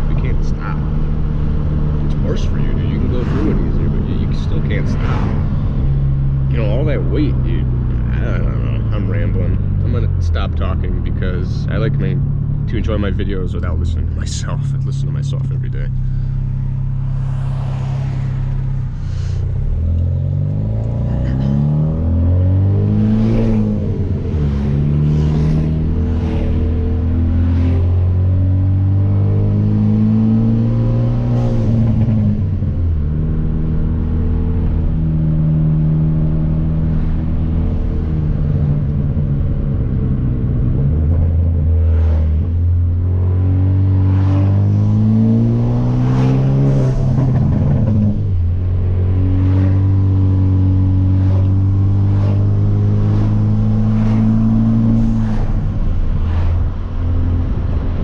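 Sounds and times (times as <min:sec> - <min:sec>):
turbocharged car engine accelerating: 0:00.0 - 0:58.0.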